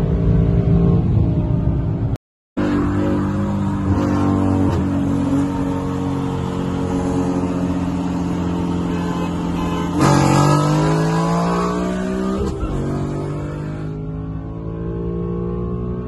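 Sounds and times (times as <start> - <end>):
car engine revving: 2.6 - 16.0.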